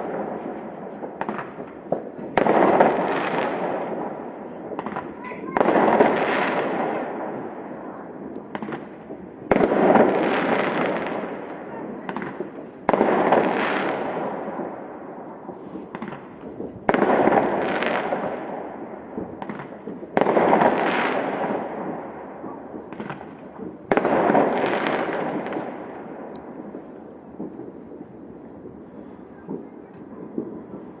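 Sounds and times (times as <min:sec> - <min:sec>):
small firework pops: 0:01.0 - 0:06.9, 0:08.3 - 0:11.4, 0:12.0 - 0:18.4, 0:19.2 - 0:28.0, 0:28.6 - 0:31.0.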